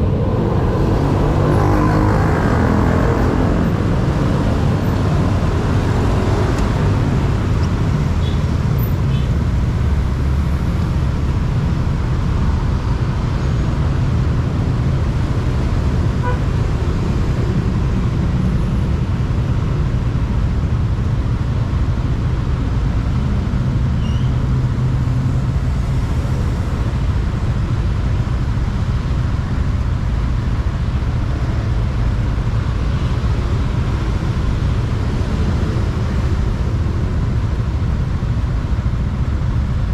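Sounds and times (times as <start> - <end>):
motorbike engine and road noise: 0.0 - 39.9.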